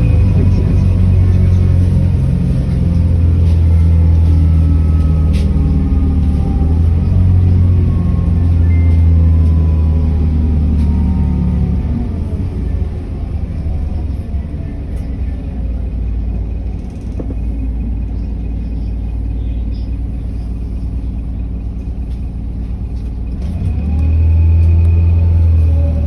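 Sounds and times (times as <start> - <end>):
bus engine: 0.0 - 26.0
road rumble: 0.0 - 26.0.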